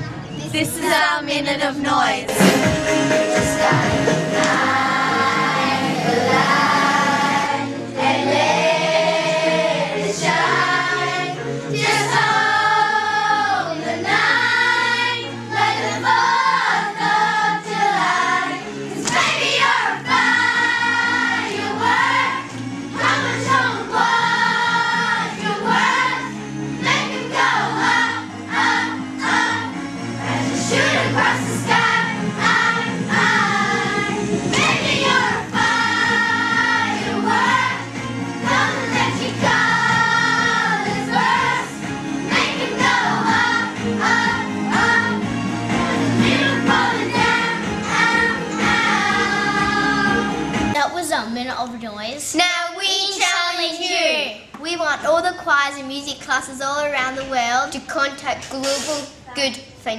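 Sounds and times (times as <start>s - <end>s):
low musical accompaniment: 0.0s - 52.0s
children's choir singing: 2.3s - 50.8s.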